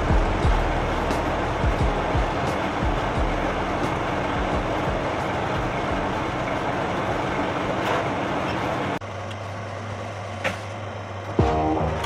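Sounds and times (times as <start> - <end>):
compressor whirring: 0.0 - 12.0
low hum: 0.0 - 12.0.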